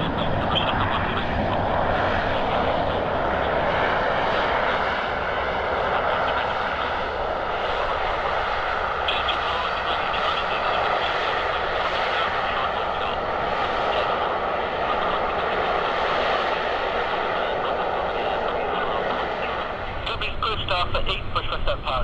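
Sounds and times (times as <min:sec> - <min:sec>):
turboprop engines running: 0:00.0 - 0:22.0.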